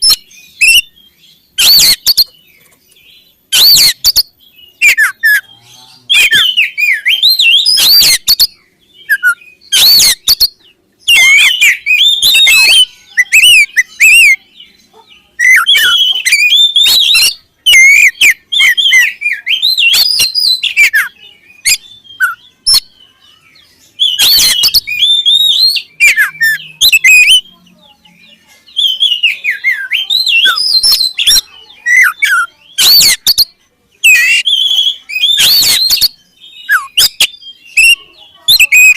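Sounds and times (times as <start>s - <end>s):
bird singing whistled phrases: 0.0s - 2.5s, 3.5s - 14.5s, 15.4s - 27.5s, 28.7s - 38.9s.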